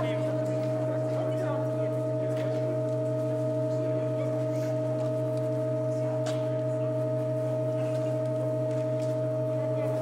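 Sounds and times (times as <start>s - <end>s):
pipe organ sustained chord: 0.0s - 10.0s.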